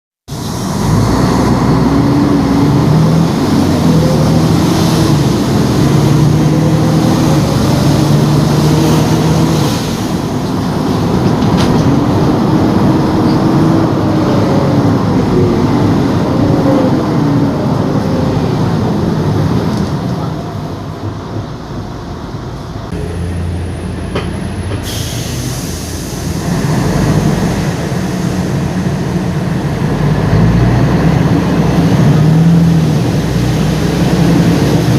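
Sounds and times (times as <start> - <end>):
bus diesel engine changing gears: 0.3 - 34.9.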